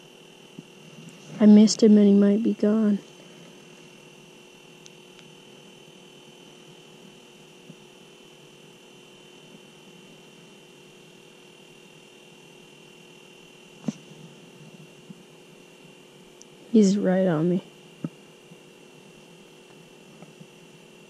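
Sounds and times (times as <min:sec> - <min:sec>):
electrical hum with high whine: 0:00.0 - 0:21.0.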